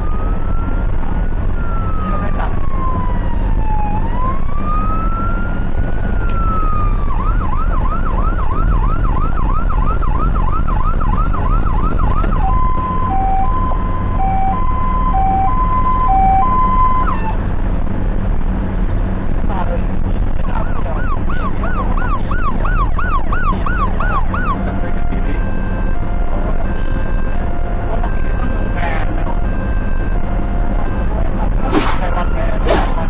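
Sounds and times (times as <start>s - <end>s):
ambulance siren wailing and yelping: 0.0s - 17.4s, 20.4s - 33.0s
engine and road noise: 0.0s - 33.0s.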